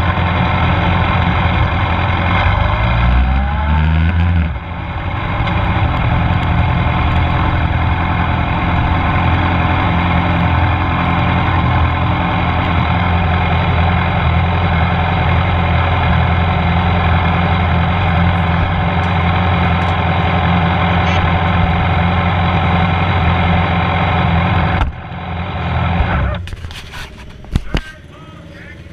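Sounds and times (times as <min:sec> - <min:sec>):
motorcycle engine idling: 0:00.0 - 0:02.8, 0:04.5 - 0:26.6, 0:27.2 - 0:28.9.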